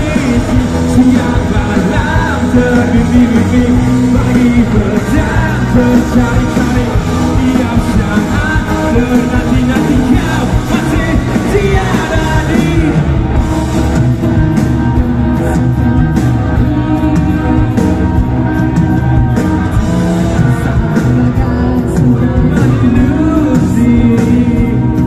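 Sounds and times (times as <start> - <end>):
person singing: 0.0 - 13.4, 15.4 - 25.0
live rock band playing: 0.0 - 25.0.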